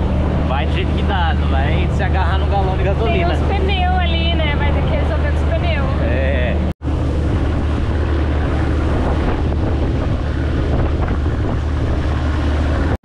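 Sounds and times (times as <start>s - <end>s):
boat engine drone: 0.0s - 13.0s
wind buffeting microphone: 0.0s - 13.0s.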